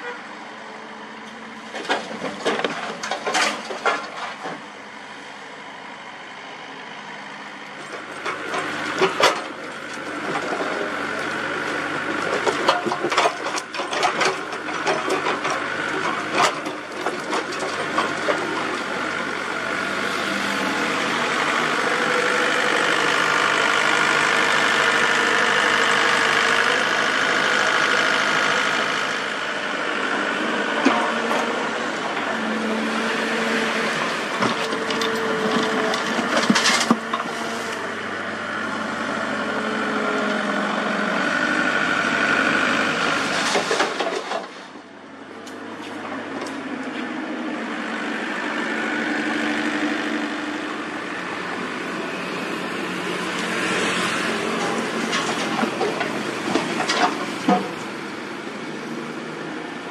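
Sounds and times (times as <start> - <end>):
excavator diesel engine revving: 0.0 - 59.9.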